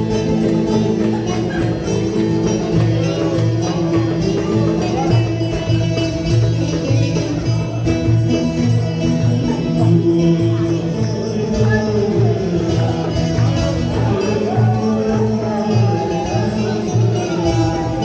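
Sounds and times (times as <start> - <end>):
goblet drum beat: 0.0 - 18.0
plucked long-necked lute: 0.0 - 18.0.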